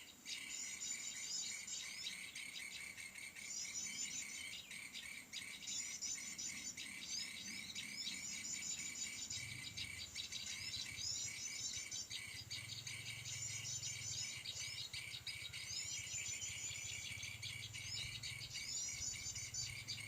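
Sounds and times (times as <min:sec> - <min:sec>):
small birds twittering: 0:00.0 - 0:20.0.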